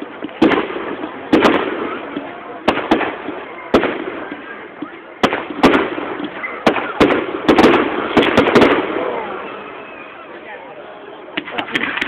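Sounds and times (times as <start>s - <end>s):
fireworks bangs: 0.0s - 10.5s, 11.3s - 12.0s.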